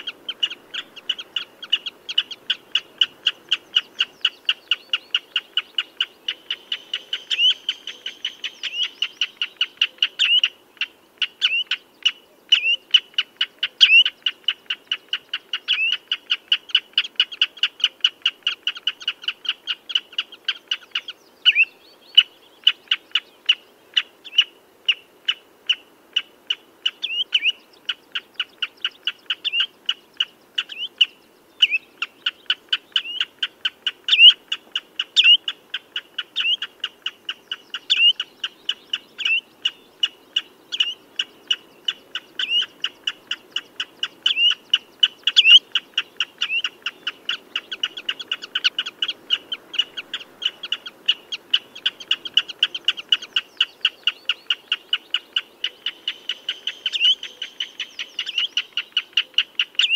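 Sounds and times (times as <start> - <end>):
bird piping calls: 0.0 - 59.9.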